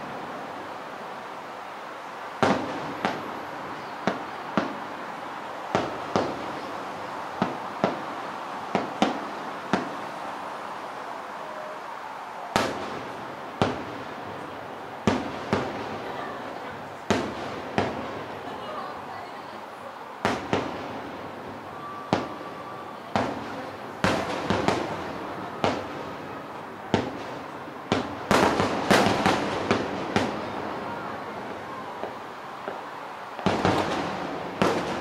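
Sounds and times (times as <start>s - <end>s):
distant fireworks booms: 2.4s - 10.3s, 12.4s - 35.0s.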